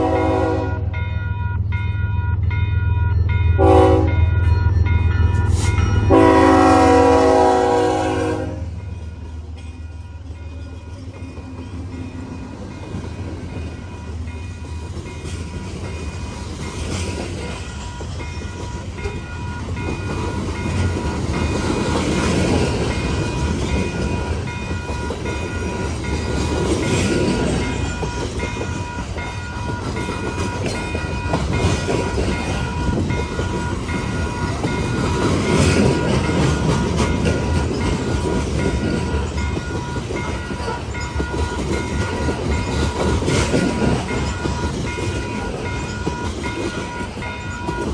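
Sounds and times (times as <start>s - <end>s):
freight train rumble: 0.0s - 47.9s
steel wheels clicking over rail joints: 8.9s - 47.9s.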